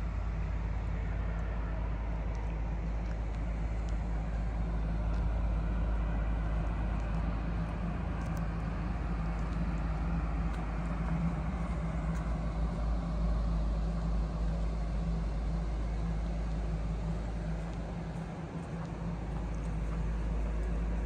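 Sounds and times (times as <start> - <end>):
low mechanical hum and rumble: 0.0 - 21.0.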